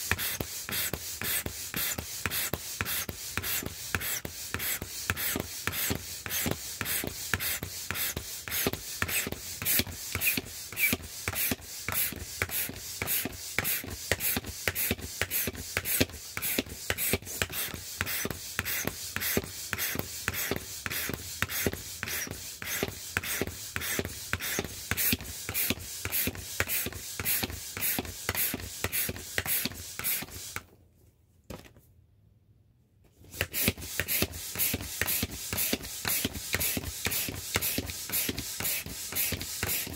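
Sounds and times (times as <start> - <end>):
manual air pump strokes: 0.0 - 30.6, 33.2 - 39.9.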